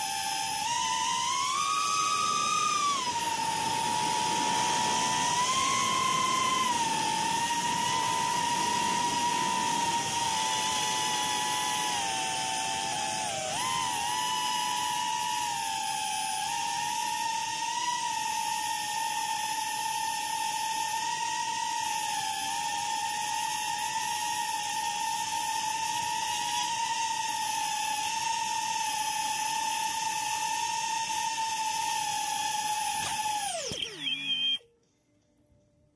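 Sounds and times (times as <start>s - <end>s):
electric motors whining: 0.0s - 34.7s.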